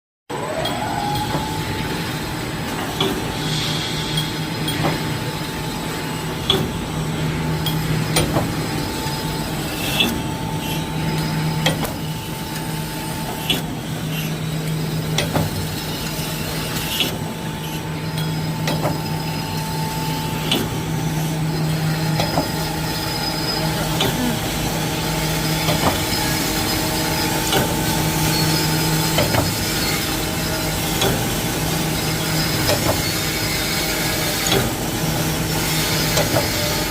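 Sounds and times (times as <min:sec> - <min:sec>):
welding machine hum: 0:00.4 - 0:36.9.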